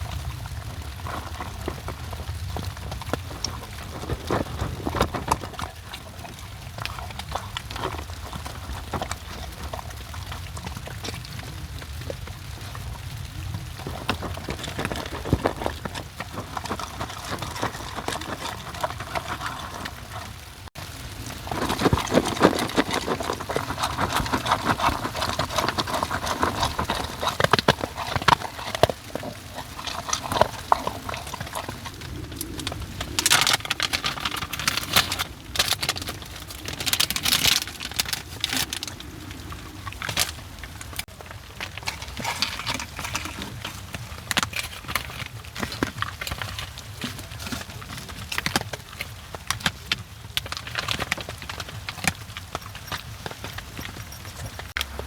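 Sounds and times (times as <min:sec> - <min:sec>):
rain pattering on a tent: 0:00.0 - 0:55.0.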